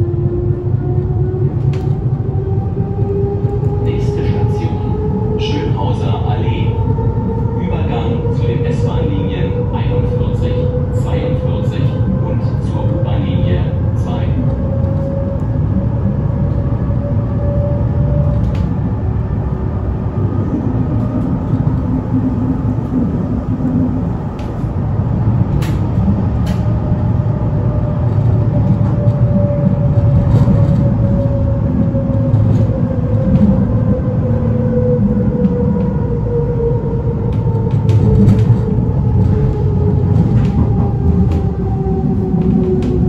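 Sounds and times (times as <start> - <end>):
train rumble with whine: 0.0 - 43.0.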